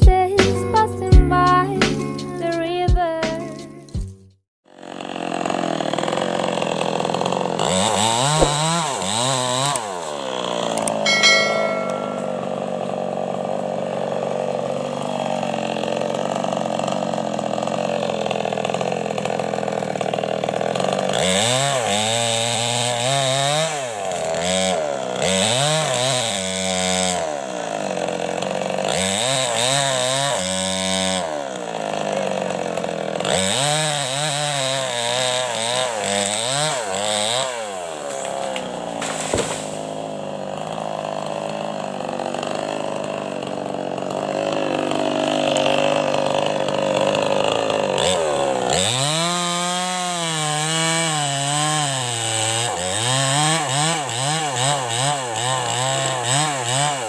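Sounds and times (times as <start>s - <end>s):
chainsaw cutting tree trunk: 4.6s - 57.0s.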